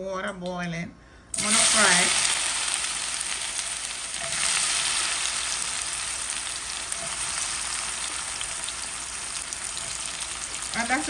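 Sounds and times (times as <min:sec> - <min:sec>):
food sizzling in frying oil: 0:01.4 - 0:11.0.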